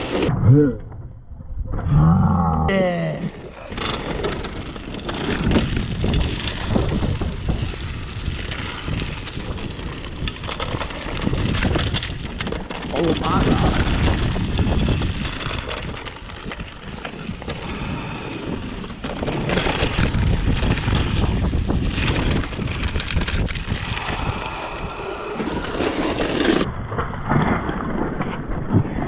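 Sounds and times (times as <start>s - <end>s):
mountain bike rattling: 3.4s - 29.0s
wind buffeting microphone: 3.5s - 26.9s.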